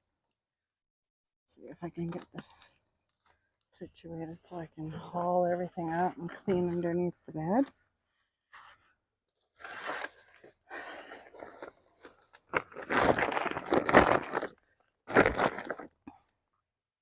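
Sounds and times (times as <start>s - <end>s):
crinkling and rustling of belongings: 2.0s - 16.5s.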